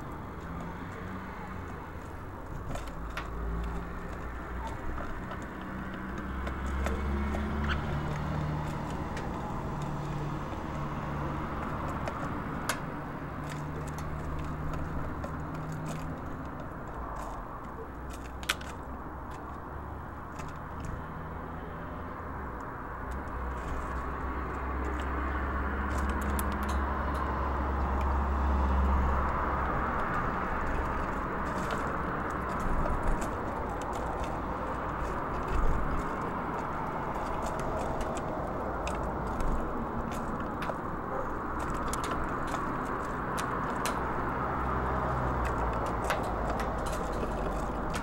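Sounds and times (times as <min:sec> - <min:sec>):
road traffic rumble: 0:00.0 - 0:48.0
vehicle passing: 0:00.0 - 0:48.0.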